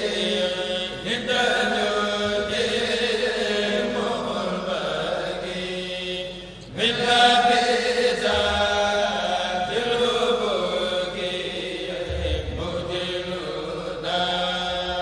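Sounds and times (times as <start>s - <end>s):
person chanting devotional poem: 0.0s - 15.0s.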